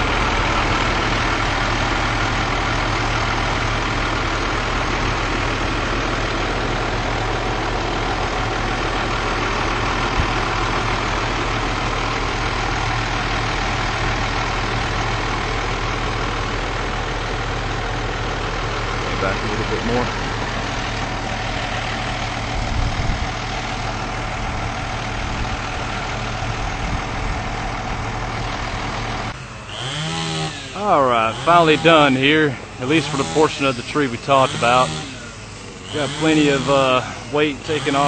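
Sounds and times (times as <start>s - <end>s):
large engine idling: 0.0s - 38.0s.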